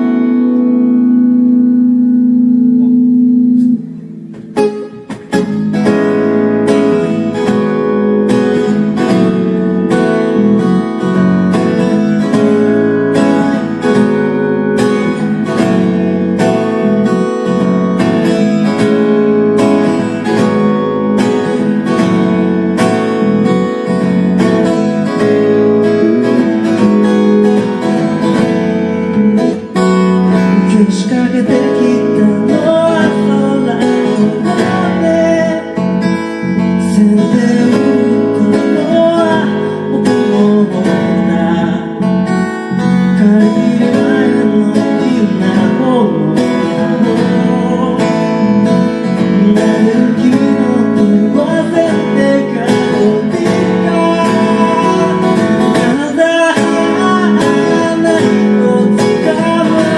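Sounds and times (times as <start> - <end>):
strummed guitar: 0.0 - 59.9.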